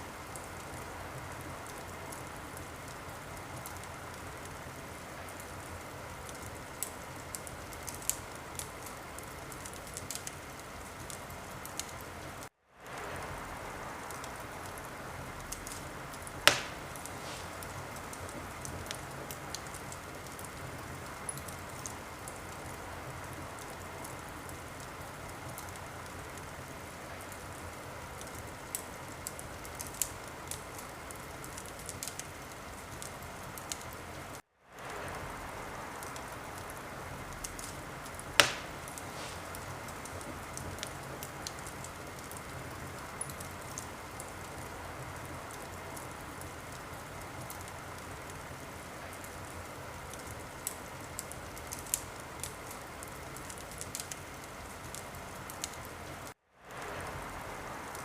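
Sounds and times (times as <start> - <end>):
fire hissing: 0.0 - 58.0
fire popping: 0.0 - 58.0.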